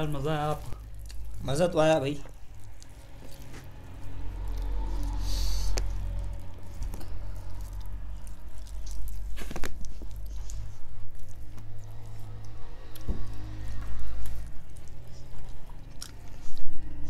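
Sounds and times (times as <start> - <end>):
chewing and tearing chicken meat: 0.0 - 17.0
steady low hum: 0.0 - 17.0.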